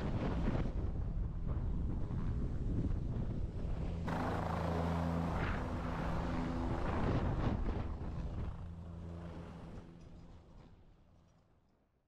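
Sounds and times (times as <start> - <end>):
rushing wind-like noise: 0.0 - 9.7
helicopter rotor and engine hum: 0.0 - 12.0.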